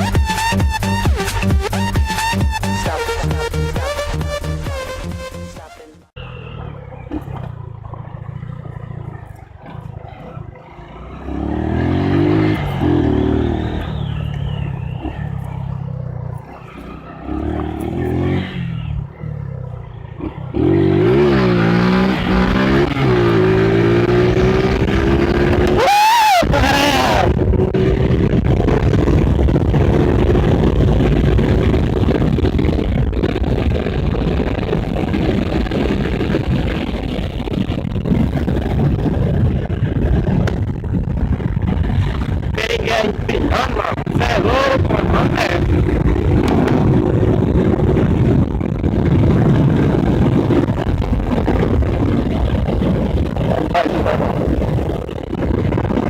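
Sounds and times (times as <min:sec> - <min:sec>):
motorcycle engine running: 0:00.0 - 0:56.0
wind rumble on microphone: 0:06.6 - 0:56.0.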